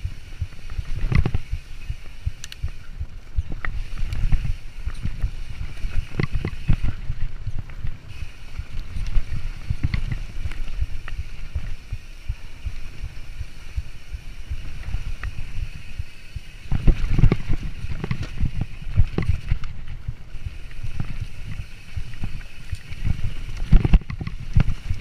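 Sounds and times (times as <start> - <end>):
bike knocking and rattling: 0.0 - 25.0
mountain bike rumbling: 0.0 - 25.0.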